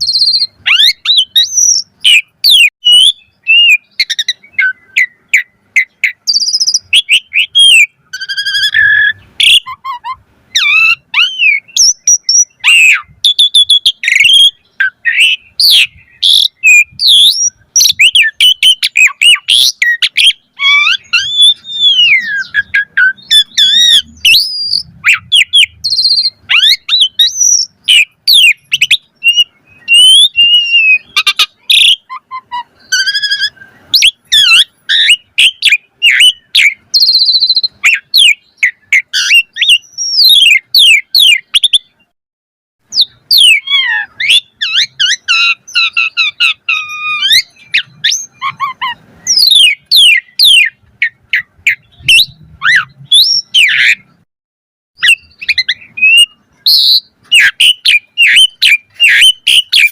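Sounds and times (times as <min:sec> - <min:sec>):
bird singing varied song: 0:00.0 - 0:42.1, 0:42.8 - 0:54.2, 0:55.0 - 0:59.9.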